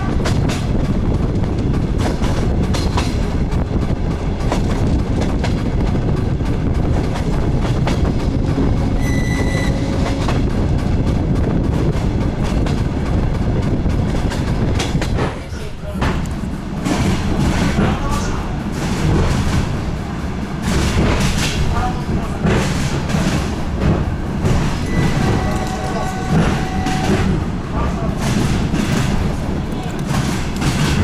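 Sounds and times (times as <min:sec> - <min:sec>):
track knocks: 0:00.0 - 0:31.0
train engine and wheels rumbling: 0:00.0 - 0:31.0.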